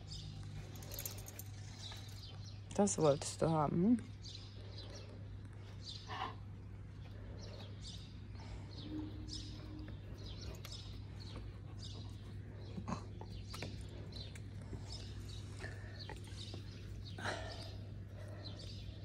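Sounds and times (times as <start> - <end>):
small birds chirping: 0.0 - 19.0
steady low hum: 0.0 - 19.0.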